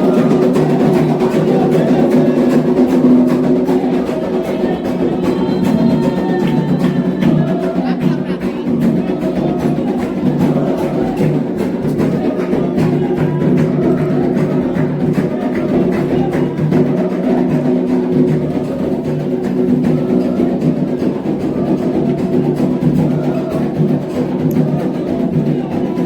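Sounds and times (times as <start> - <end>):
hand drums and percussion: 0.0 - 26.0.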